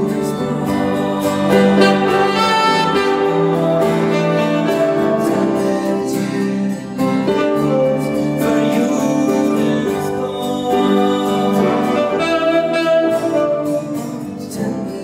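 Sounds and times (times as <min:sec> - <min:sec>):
acoustic guitar: 0:00.0 - 0:15.0
upright piano: 0:00.0 - 0:15.0.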